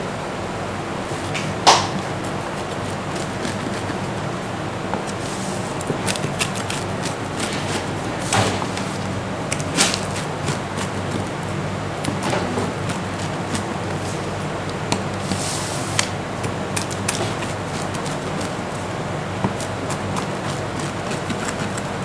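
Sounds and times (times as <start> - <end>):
steady low hum: 0.0 - 22.0
pizza cutter crunching crust: 1.0 - 22.0.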